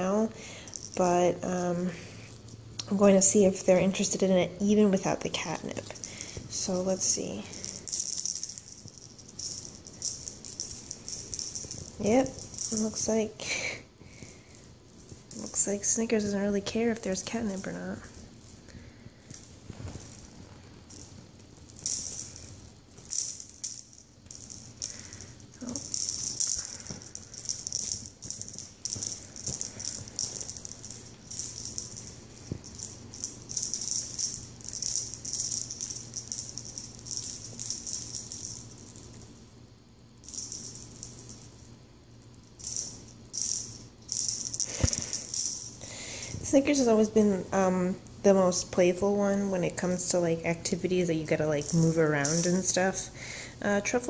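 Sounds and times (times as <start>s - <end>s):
small bell jingling: 0.5s - 1.2s, 5.4s - 13.5s, 14.1s - 39.4s, 40.2s - 47.8s, 49.2s - 53.6s.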